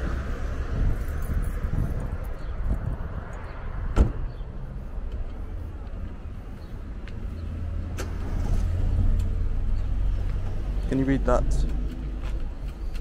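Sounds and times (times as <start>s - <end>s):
street ambience rumble: 0.0s - 13.0s.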